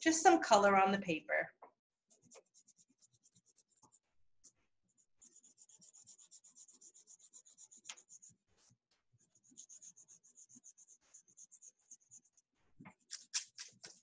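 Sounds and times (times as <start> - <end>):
crayon scratching on paper: 2.1 - 14.0.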